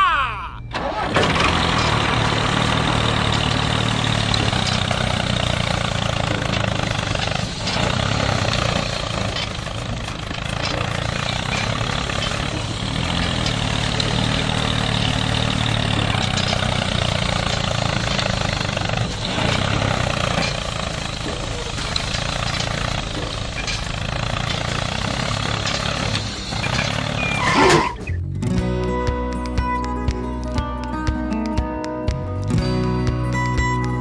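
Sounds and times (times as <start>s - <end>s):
engine running with rattly drone: 0.7s - 31.0s.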